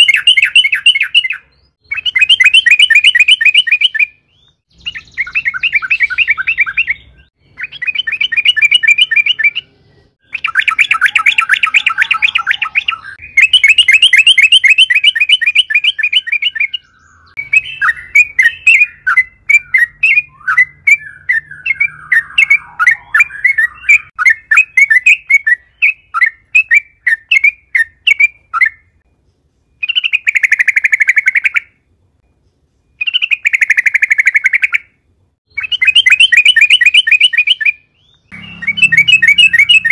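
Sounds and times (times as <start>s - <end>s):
bird chattering song: 0.0s - 39.9s
bird sharp chirps: 0.0s - 39.9s.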